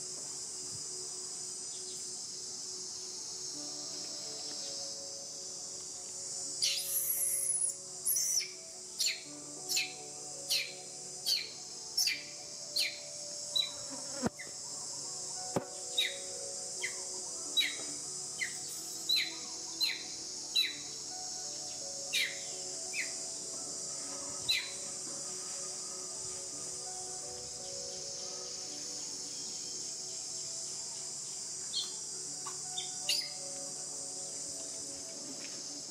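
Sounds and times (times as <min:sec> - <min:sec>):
high insect drone: 0:00.0 - 0:35.9.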